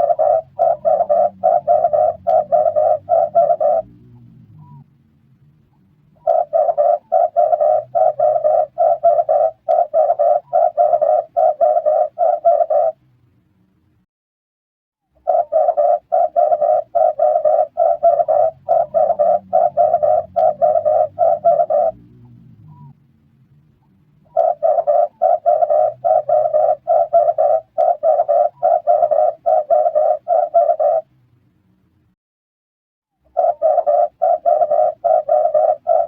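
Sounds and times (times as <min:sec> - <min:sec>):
dove cooing: 0:00.0 - 0:04.8, 0:06.2 - 0:13.0, 0:15.2 - 0:23.0, 0:24.2 - 0:31.1, 0:33.3 - 0:36.0.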